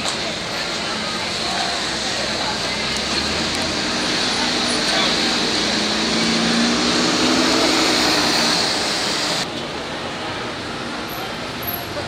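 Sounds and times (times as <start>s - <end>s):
loud street din: 0.0s - 12.0s.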